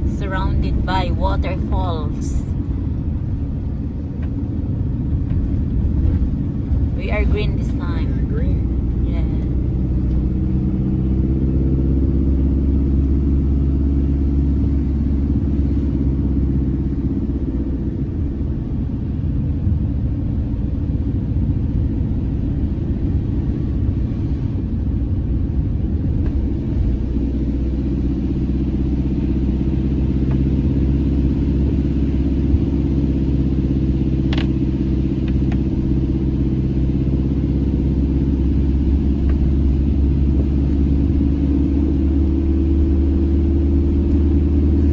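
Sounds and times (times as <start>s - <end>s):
van engine and road drone: 0.0s - 44.9s.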